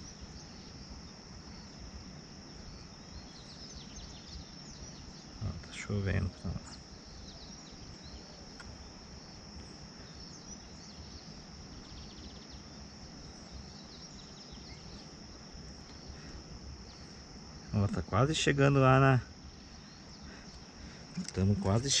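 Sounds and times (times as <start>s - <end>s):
faint bird chirps: 0.0s - 1.9s, 2.5s - 22.0s
insect chorus: 0.0s - 22.0s.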